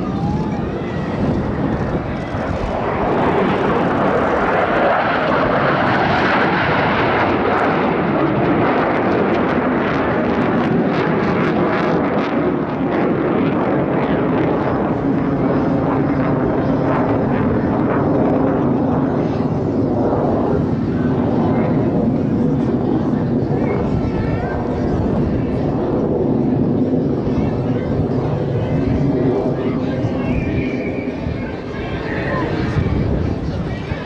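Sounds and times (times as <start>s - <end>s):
jet engine roar with crackle: 0.0s - 34.0s.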